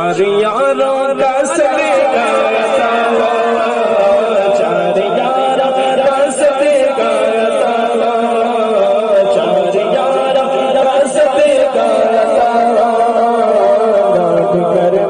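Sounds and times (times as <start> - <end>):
man singing through pa speakers: 0.0 - 15.0.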